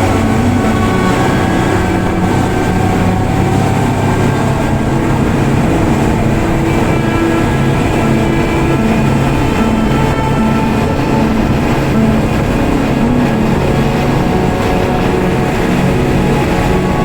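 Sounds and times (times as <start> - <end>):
boat engine droning: 0.0 - 17.0
wind and water rushing: 0.0 - 17.0.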